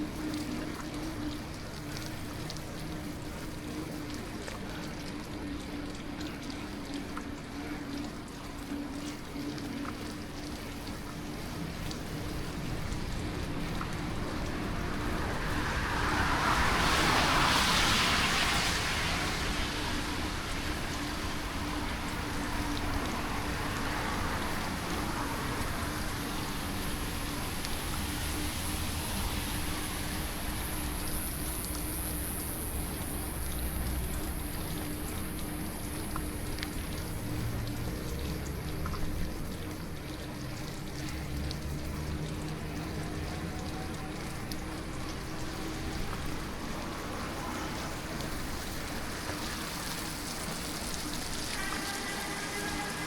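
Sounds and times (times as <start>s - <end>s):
wind: 0.0s - 53.0s
tyres hissing on wet road: 9.3s - 53.0s.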